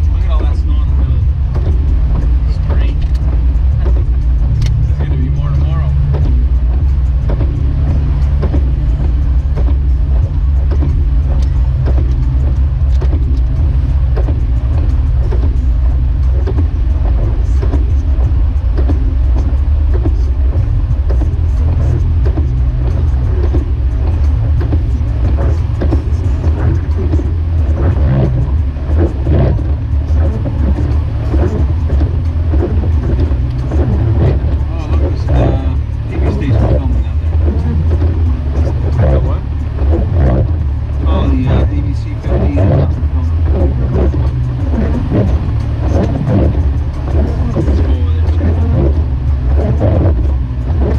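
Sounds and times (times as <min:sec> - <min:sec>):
engine and road drone: 0:00.0 - 0:50.9.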